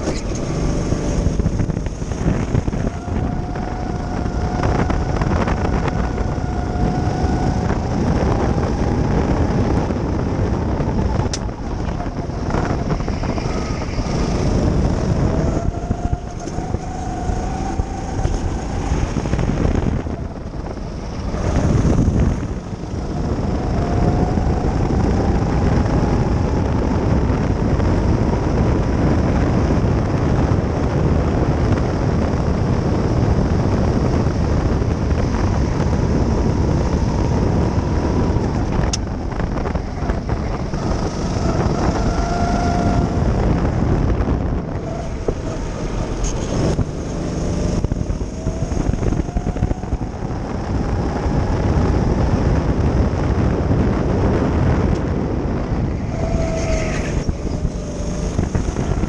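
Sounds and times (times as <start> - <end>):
go-kart engine running: 0.0 - 59.0
wind buffeting microphone: 0.0 - 59.0.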